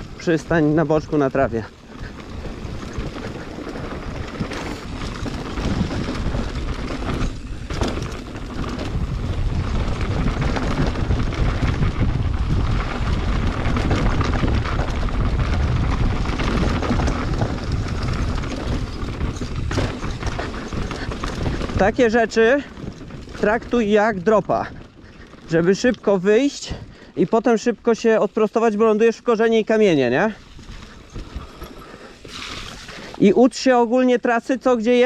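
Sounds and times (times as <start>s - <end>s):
wind buffeting microphone: 0.0s - 28.5s, 29.2s - 33.4s
bike tyre rumble and rattle: 0.0s - 35.0s.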